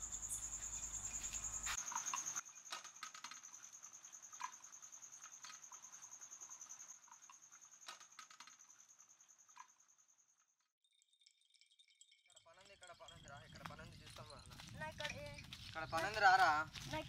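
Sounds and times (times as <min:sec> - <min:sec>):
crickets trilling: 0:00.0 - 0:10.5, 0:12.8 - 0:17.0.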